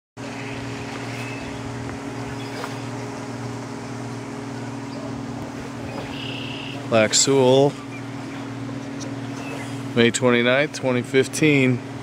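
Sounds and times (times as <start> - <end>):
machine humming: 0.2 - 12.0.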